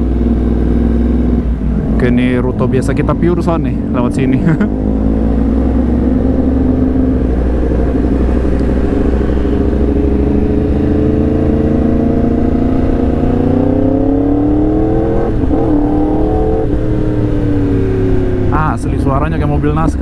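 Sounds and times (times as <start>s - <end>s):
motorcycle accelerating hard: 0.0s - 20.0s.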